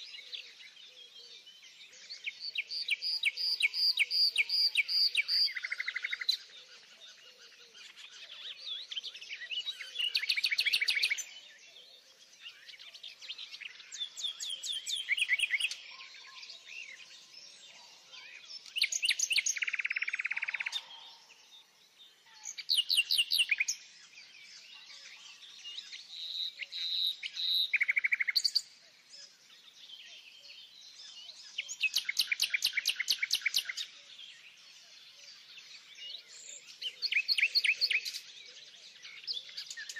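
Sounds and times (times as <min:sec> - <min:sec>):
quiet bird chirps: 0:00.0 - 0:39.9
songbirds singing: 0:00.0 - 0:39.9.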